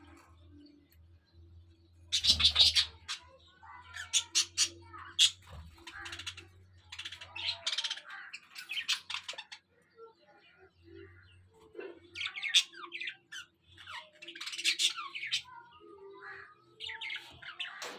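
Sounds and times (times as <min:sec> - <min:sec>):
budgerigars chirping and chattering: 0:01.9 - 0:17.9.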